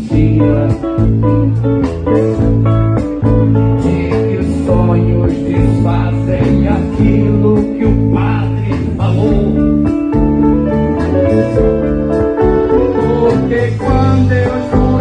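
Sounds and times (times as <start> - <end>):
bass line: 0.0 - 15.0
guitars: 0.0 - 15.0
live band music: 0.0 - 15.0.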